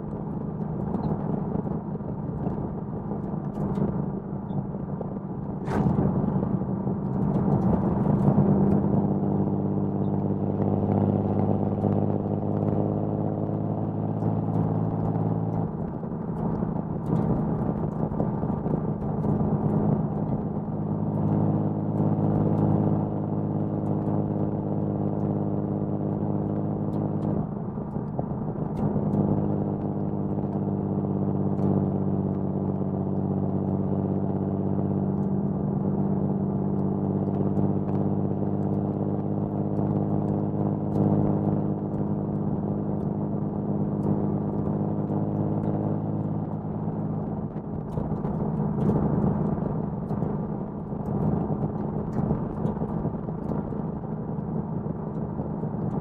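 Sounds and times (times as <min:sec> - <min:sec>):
car engine running at part throttle: 0:00.0 - 0:56.0.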